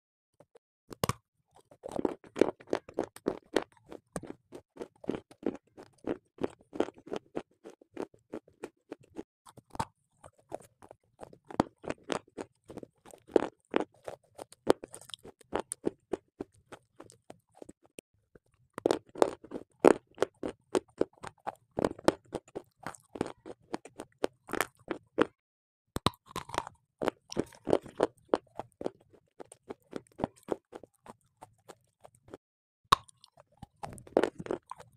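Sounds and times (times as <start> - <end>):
crunching and chewing: 0.5 - 25.4, 26.0 - 34.9.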